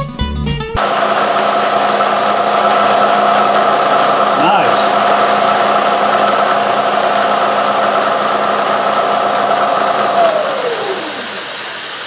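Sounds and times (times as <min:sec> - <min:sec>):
end mill cutting aluminium: 0:00.8 - 0:12.0
milling machine spindle whine: 0:00.8 - 0:12.0
spray coolant hiss: 0:00.8 - 0:12.0.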